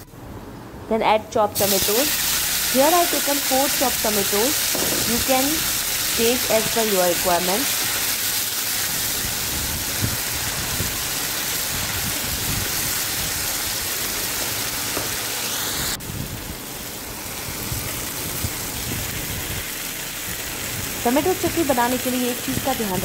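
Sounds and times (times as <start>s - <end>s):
tomatoes sizzling in oil: 1.6s - 23.0s.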